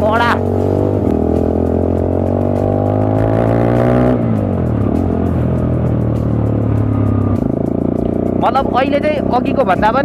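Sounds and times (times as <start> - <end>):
motorcycle engine loud exhaust: 0.0 - 10.0.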